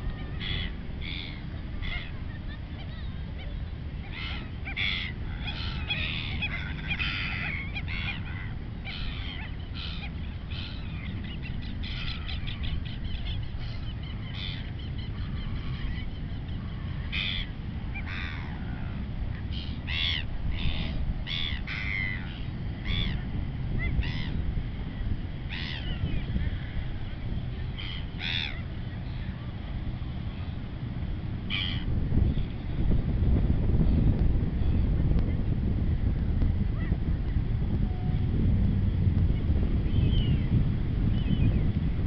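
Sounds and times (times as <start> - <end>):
waterbirds calling: 0.0 - 32.9, 39.4 - 41.9
low steady rumble: 0.0 - 42.0.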